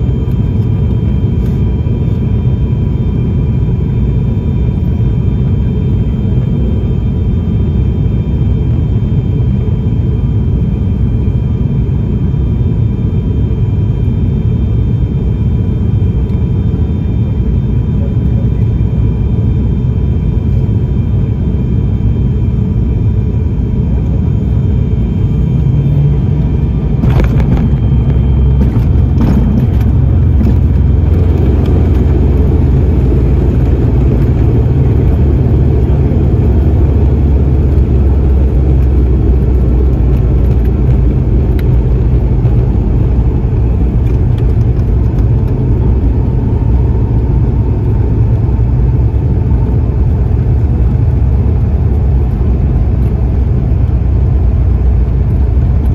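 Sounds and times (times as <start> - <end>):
airliner engines and wheels rumbling: 0.0 - 55.9.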